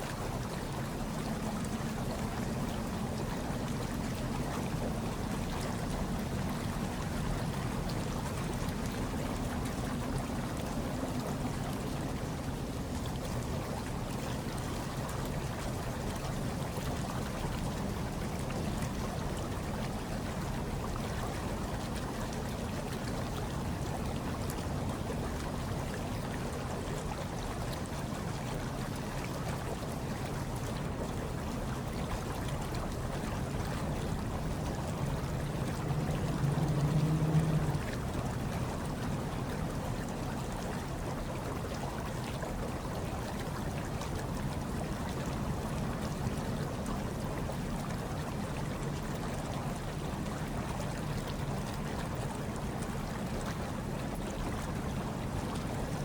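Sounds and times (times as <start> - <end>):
hot tub water bubbling: 0.0 - 56.0.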